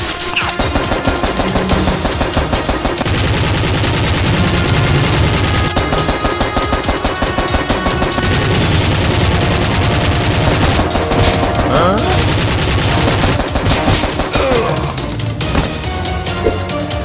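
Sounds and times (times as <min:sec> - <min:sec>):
machine-gun fire: 0:00.4 - 0:16.0.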